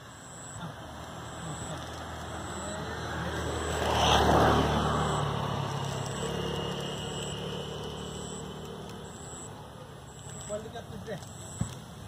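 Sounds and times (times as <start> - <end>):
vehicle passing: 0.2 - 11.6.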